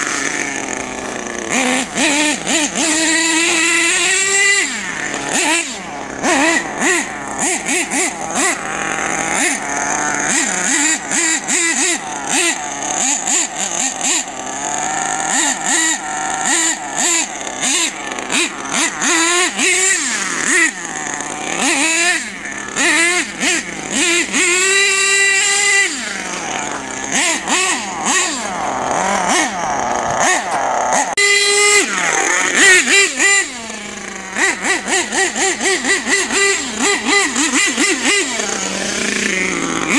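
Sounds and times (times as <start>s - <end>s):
small nitro engine revving: 0.0s - 39.9s.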